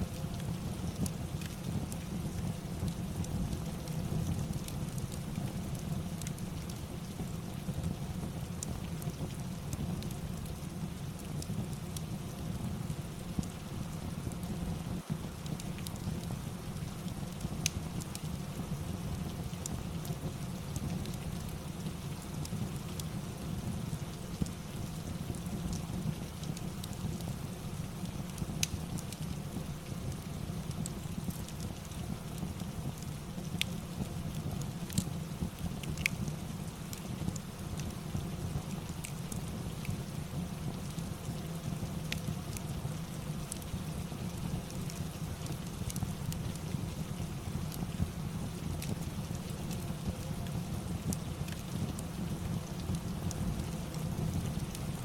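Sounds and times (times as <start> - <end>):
steady rain: 0.0 - 55.0
fireplace crackling: 0.1 - 55.0.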